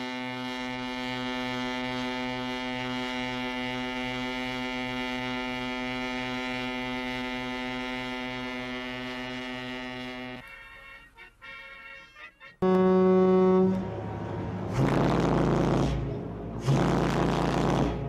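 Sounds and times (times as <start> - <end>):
ship's horn blast: 0.0 - 18.0.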